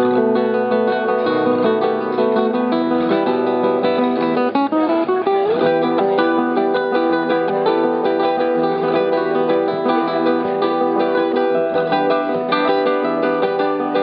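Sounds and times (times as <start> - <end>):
classical guitar duet: 0.0 - 14.0.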